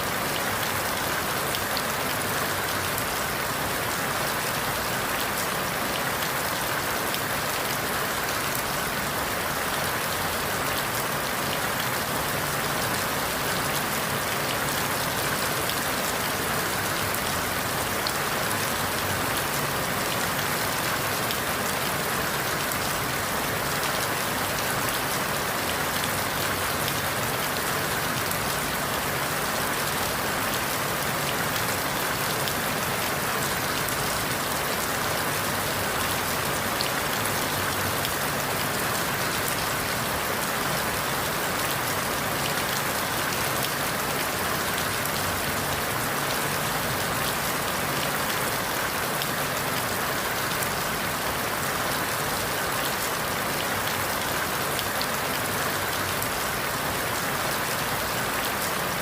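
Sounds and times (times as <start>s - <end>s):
rain falling through forest leaves: 0.0s - 59.0s.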